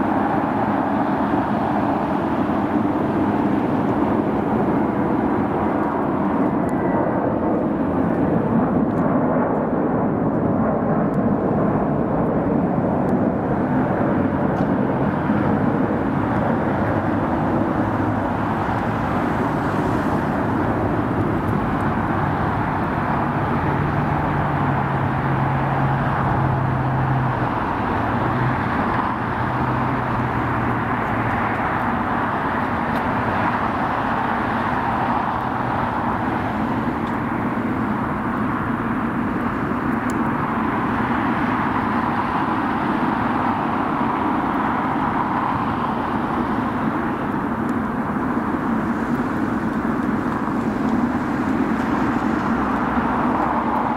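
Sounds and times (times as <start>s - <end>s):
jet engines rumbling: 0.0s - 53.9s.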